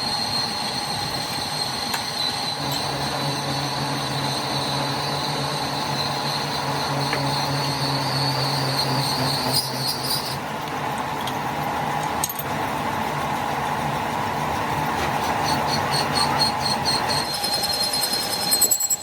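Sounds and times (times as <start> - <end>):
factory machinery running: 0.0 - 19.0.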